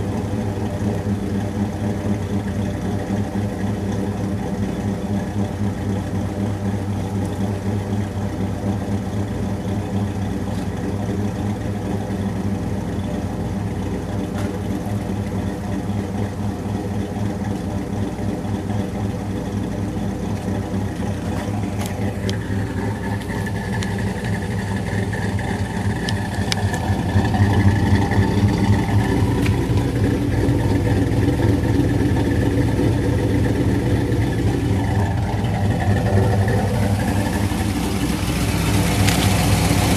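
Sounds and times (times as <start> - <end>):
car engine idling with a lope: 0.0 - 39.9.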